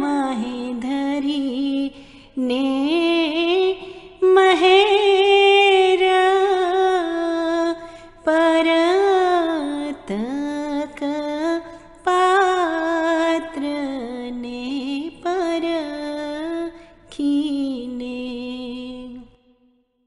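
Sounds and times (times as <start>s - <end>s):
person singing devotional song: 0.0s - 19.4s.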